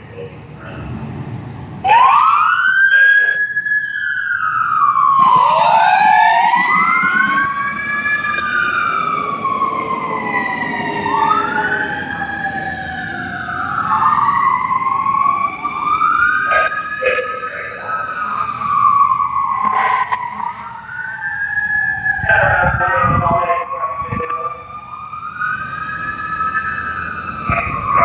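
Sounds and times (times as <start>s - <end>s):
fire engine siren wailing: 0.0s - 28.0s.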